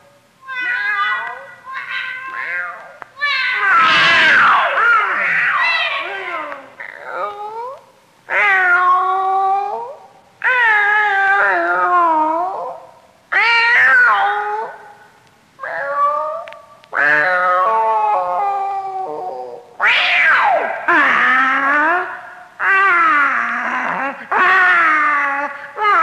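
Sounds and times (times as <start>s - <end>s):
cats caterwauling: 0.4s - 15.0s, 15.6s - 26.0s.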